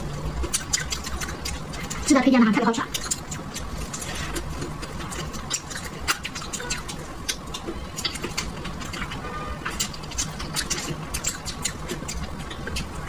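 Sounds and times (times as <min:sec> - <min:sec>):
chewing and lip smacking: 0:00.0 - 0:13.0.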